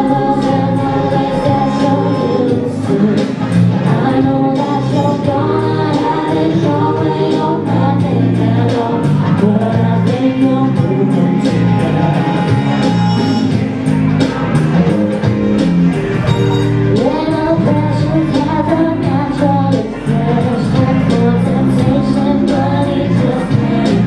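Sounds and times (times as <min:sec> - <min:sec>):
person singing: 0:00.0 - 0:13.6, 0:16.9 - 0:24.0
pop backing track: 0:00.0 - 0:24.0.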